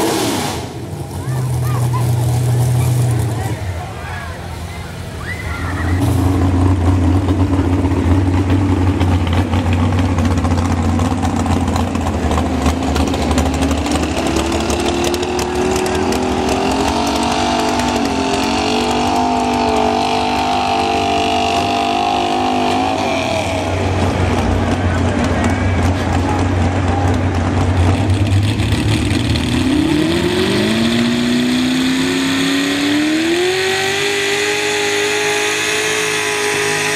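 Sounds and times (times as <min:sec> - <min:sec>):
truck engine revving under load: 0:00.0 - 0:04.0, 0:04.6 - 0:36.9.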